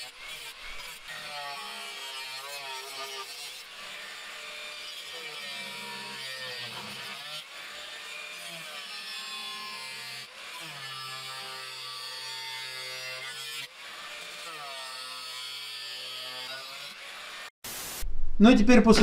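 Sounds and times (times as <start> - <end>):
angle grinder cutting steel: 0.0 - 17.6.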